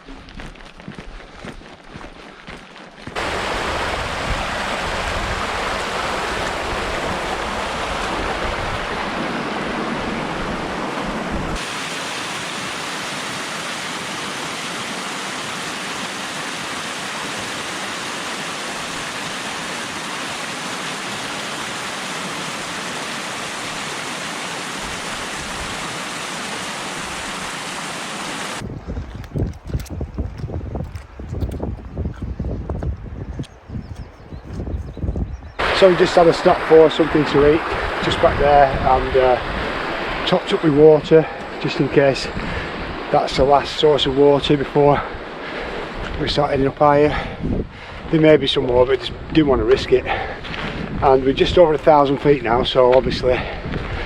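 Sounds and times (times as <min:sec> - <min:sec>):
rushing mountain stream: 0:02.7 - 0:28.7, 0:35.6 - 0:54.0.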